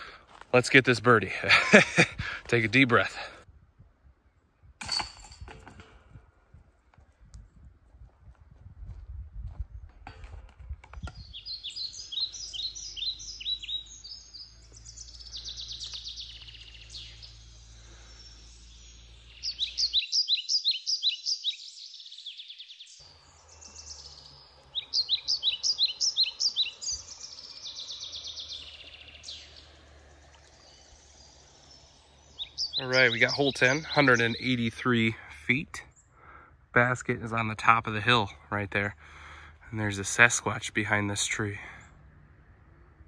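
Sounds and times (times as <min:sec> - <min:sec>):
songbirds chirping: 0:00.0 - 0:04.8, 0:09.5 - 0:43.0.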